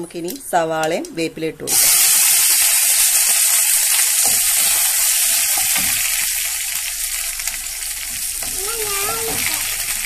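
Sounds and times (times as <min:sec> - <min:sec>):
onions sizzling in hot oil: 0:01.6 - 0:10.0.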